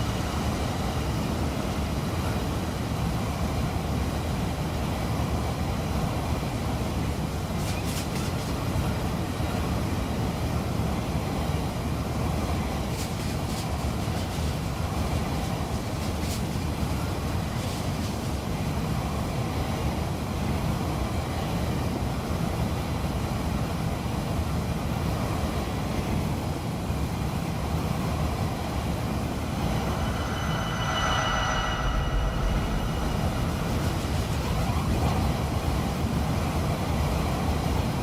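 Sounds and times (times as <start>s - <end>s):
freight train wheels rumbling on rails: 0.0s - 38.0s.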